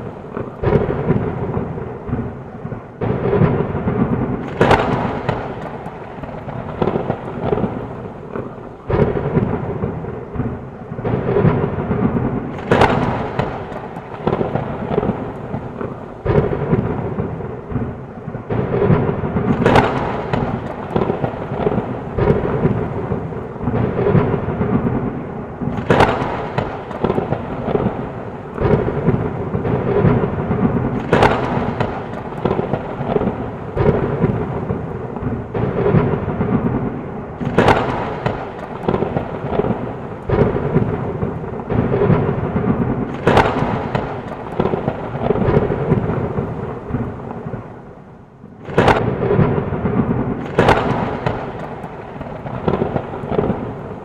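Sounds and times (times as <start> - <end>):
sharp thunder cracks: 0.0 - 47.9, 48.6 - 54.0
steady rain: 0.0 - 54.0
thunder rumbling: 0.0 - 54.0.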